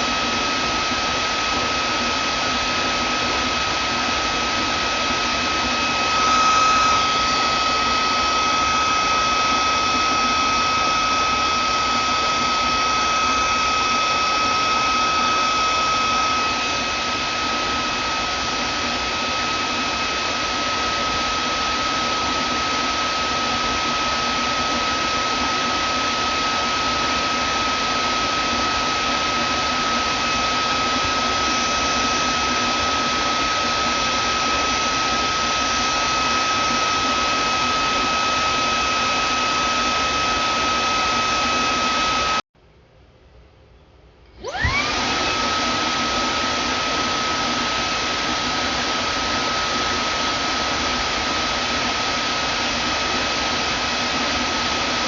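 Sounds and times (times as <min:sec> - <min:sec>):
vacuum cleaner motor whining: 0:00.0 - 0:42.4, 0:44.4 - 0:55.0.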